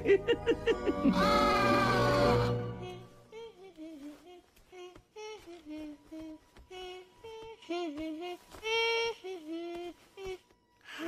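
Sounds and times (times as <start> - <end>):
soft sung melody: 1.4 - 11.0.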